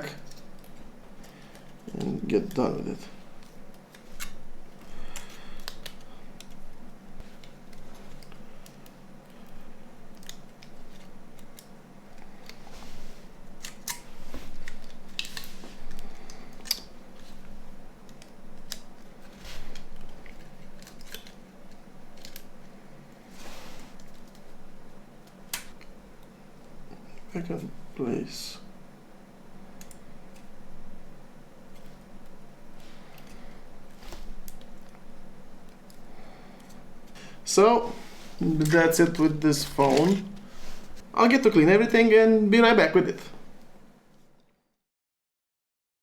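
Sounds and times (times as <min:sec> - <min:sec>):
faint steady hum: 0:00.0 - 0:44.8.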